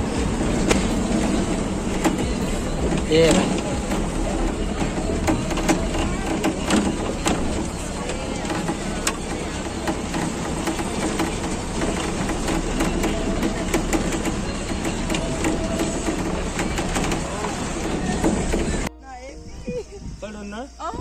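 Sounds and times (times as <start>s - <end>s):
steady low rumble: 0.0s - 20.3s
indistinct voices: 0.0s - 21.0s.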